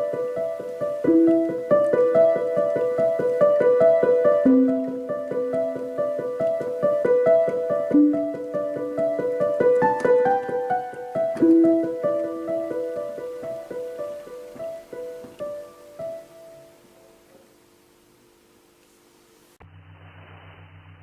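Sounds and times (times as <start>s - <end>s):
solo piano piece: 0.0s - 18.5s.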